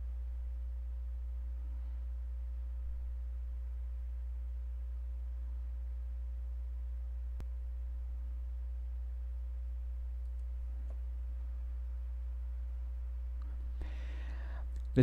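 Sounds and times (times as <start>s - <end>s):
mains hum: 0.0s - 15.0s.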